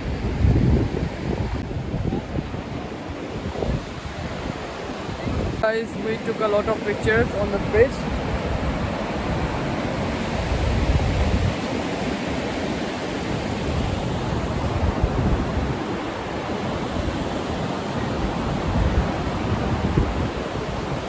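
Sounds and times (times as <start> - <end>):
fast river water rushing: 0.0 - 21.0
wind buffeting microphone: 0.0 - 21.0.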